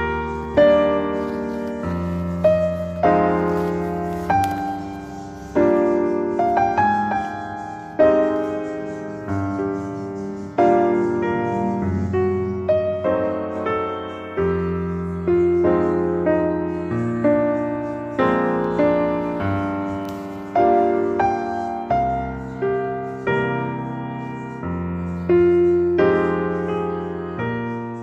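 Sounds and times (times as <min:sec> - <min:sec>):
slow gentle piano music: 0:00.0 - 0:28.0.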